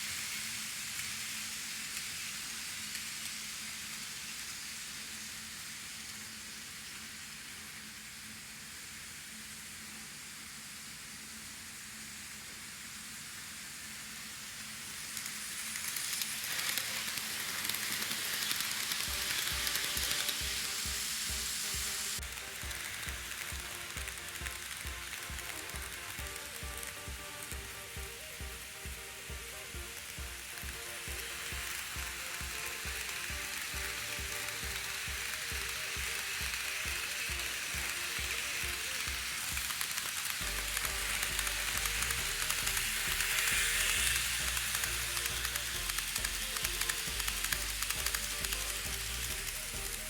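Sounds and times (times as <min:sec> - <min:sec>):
model train rolling on track: 0:00.0 - 0:50.0.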